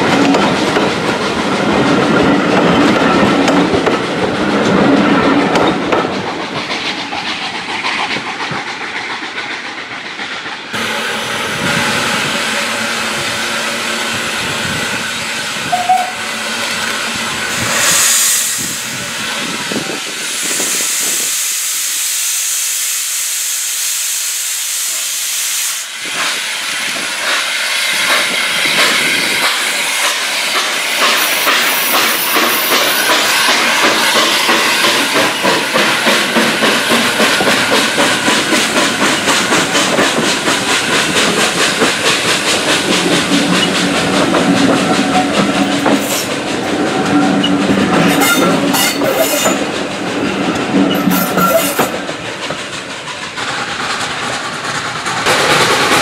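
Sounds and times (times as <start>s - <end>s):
train coaches clickety-clack: 0.0s - 23.6s, 24.2s - 56.0s
steam locomotive hissing: 0.0s - 56.0s.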